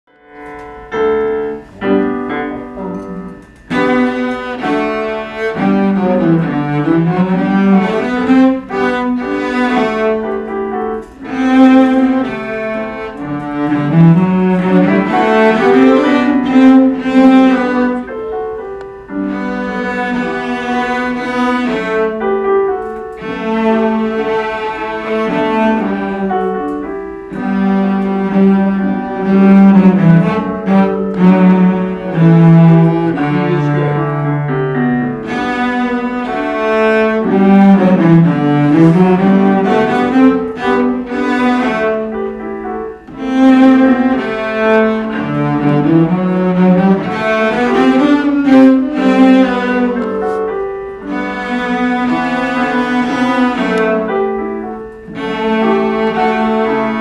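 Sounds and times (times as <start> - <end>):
electric keyboard piano accompaniment: 0.1 - 57.0
cellos playing a march: 1.6 - 18.3, 19.1 - 57.0.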